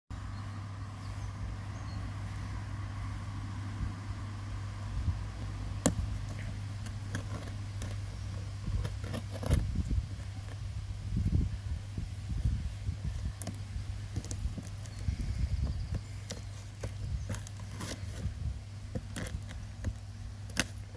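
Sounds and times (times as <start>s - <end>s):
steady low rumble: 0.1s - 20.9s.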